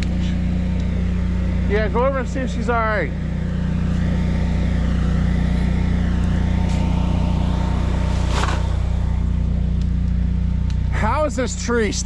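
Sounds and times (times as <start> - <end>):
generator engine humming: 0.0 - 12.0.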